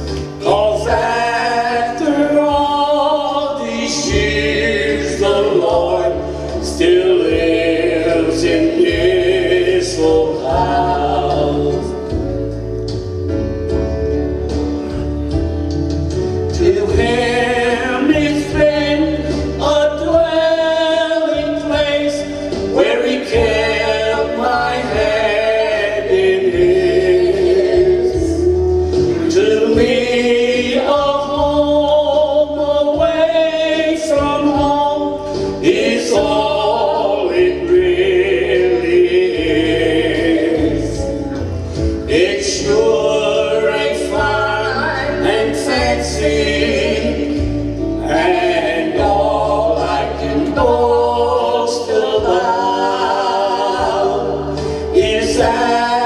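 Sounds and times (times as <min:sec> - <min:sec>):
man and woman singing: 0:00.0 - 0:12.3, 0:16.5 - 0:41.4, 0:42.0 - 0:56.0
instrumental accompaniment with bass: 0:00.0 - 0:56.0.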